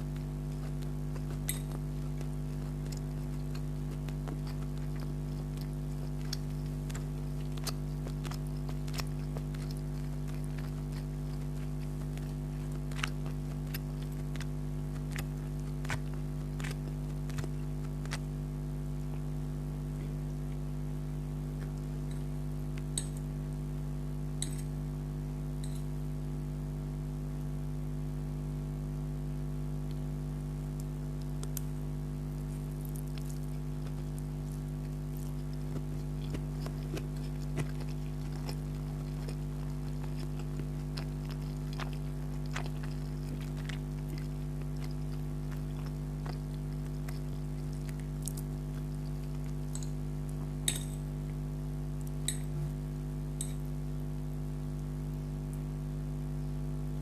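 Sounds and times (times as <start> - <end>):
person chewing food: 0.0 - 23.4, 30.7 - 53.8
low electrical hum: 0.0 - 57.0.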